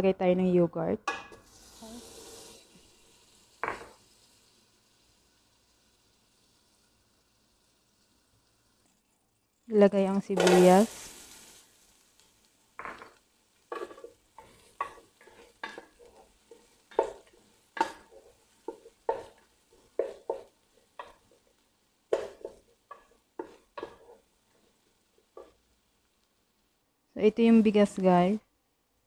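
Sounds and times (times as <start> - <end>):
onions sizzling: 1.1 - 28.4.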